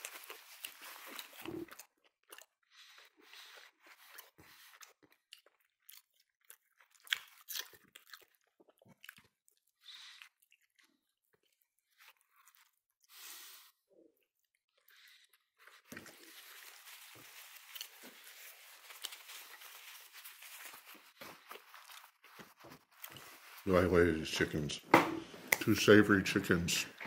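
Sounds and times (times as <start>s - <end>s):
person chewing chicken: 0.0s - 23.7s.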